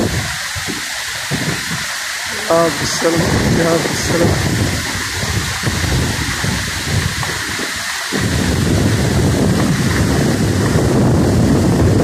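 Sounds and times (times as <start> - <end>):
floodwater rushing: 0.0 - 12.0
wind on microphone: 0.0 - 12.0.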